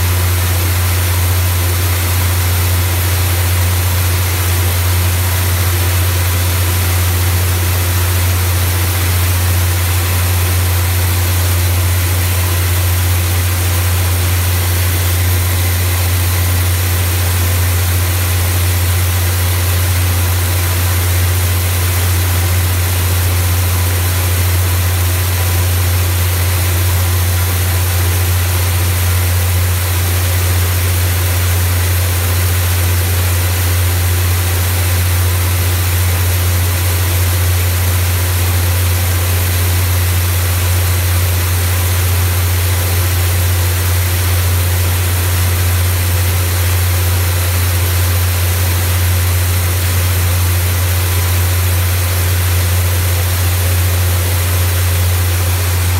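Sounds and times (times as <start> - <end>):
rice milling machine humming: 0.0 - 55.9.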